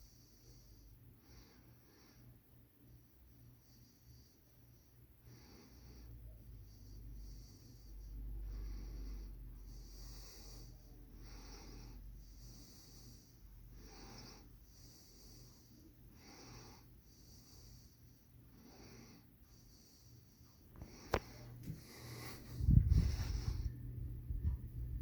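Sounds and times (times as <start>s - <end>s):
ceiling fan motor hum: 0.0s - 25.0s
rhythmic whooshes of air: 0.0s - 25.0s.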